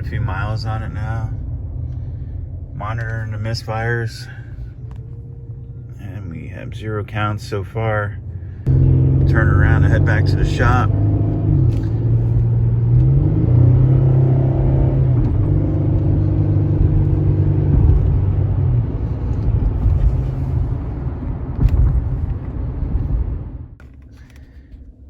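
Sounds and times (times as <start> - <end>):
car engine running: 0.0 - 25.0
road rumble: 0.0 - 25.0.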